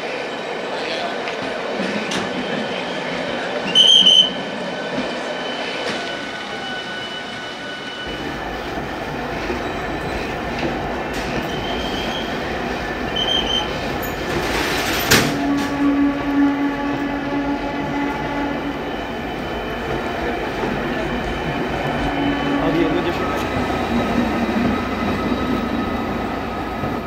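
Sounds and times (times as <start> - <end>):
train wheels squealing on rails: 1.8 - 15.8, 18.1 - 26.8.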